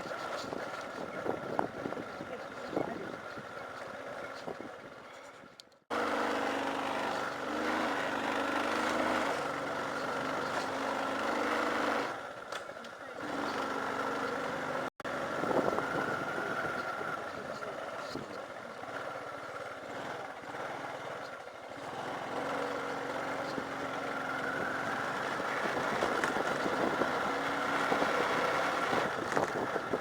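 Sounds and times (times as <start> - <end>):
vehicle engine driving: 0.0 - 30.0.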